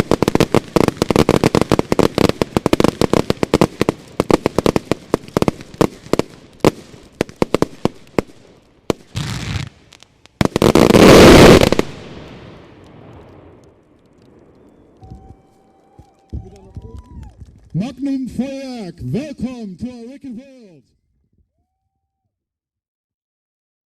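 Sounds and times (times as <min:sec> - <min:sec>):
fireworks bangs: 0:00.0 - 0:20.8.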